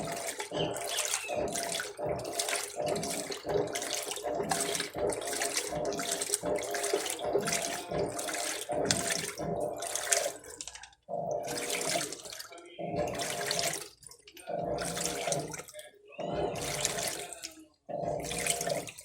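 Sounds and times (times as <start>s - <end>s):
washing machine motor hum: 0.0s - 19.0s
water swishing in washing machine: 0.0s - 19.0s.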